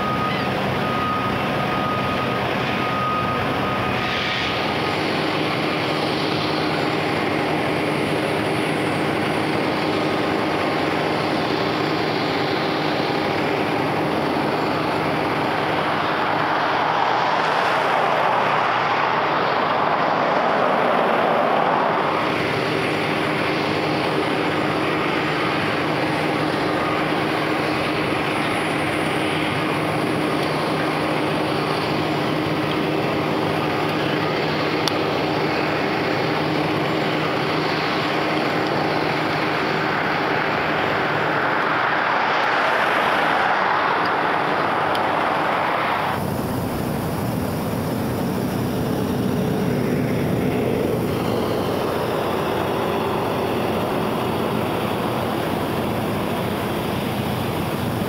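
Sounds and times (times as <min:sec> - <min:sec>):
engine drone: 0:00.0 - 0:58.0.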